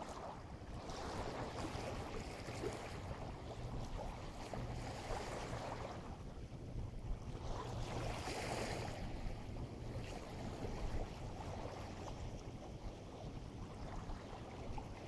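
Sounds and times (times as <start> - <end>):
small waves at shore: 0.0 - 15.0
wind rumble on microphone: 0.0 - 15.0.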